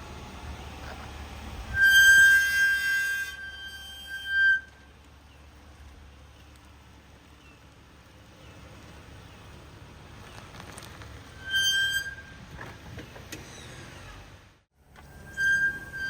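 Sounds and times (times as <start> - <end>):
brakes squealing: 0.0 - 16.0.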